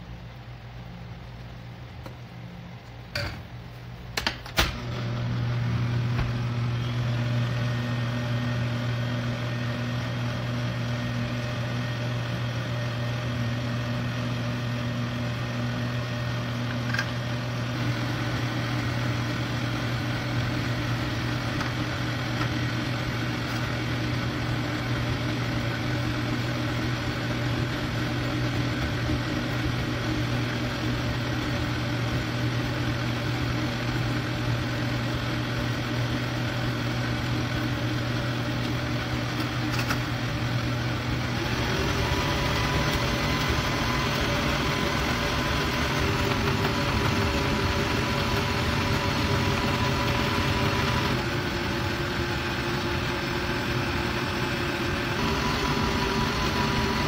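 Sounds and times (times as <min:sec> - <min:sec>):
stand mixer motor running: 0:04.7 - 0:57.0.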